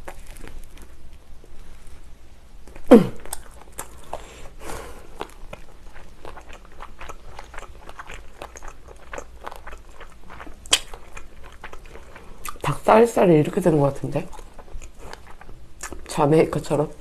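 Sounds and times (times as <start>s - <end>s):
chewing fried chicken: 0.0s - 16.2s.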